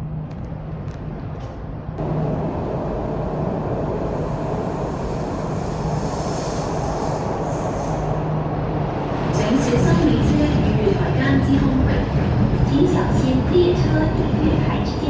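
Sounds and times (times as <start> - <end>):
metro train arriving: 0.0 - 15.0.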